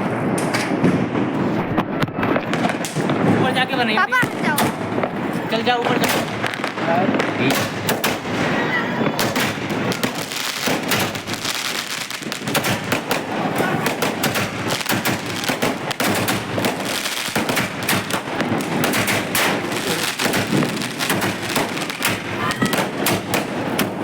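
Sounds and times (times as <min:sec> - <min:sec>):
fireworks cracking and banging: 0:00.0 - 0:24.0.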